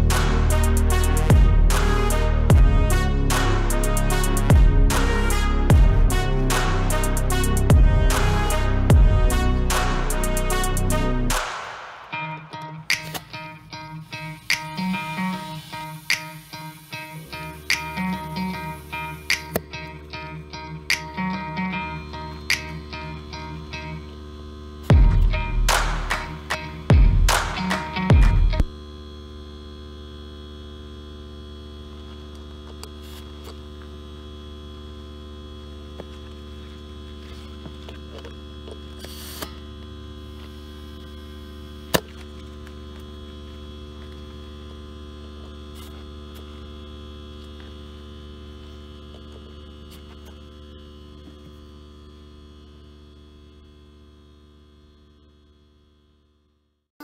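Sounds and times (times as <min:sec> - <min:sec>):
electrical hum: 0:00.0 - 0:56.6.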